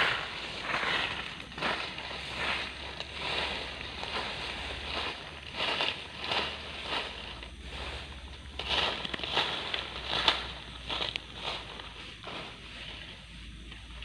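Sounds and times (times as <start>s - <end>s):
dry leaves crunching and rustling: 0.0s - 13.2s.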